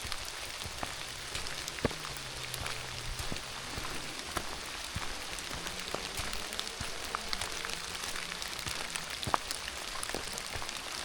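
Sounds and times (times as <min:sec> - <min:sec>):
sharp taps of raindrops: 0:00.0 - 0:11.0
steady rain falling: 0:00.0 - 0:11.0.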